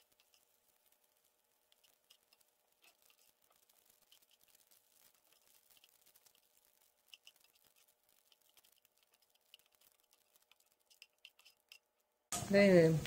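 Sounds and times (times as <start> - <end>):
spatula stirring in frying pan: 0.0 - 12.5.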